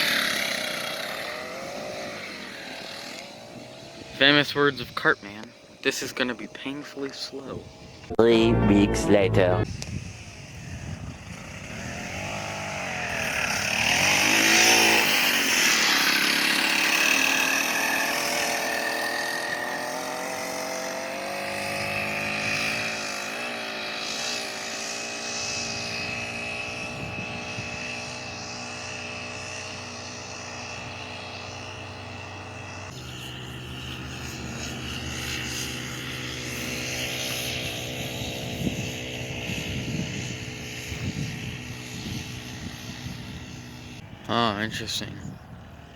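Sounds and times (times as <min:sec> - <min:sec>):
small gas engine running hard: 0:00.0 - 0:45.9.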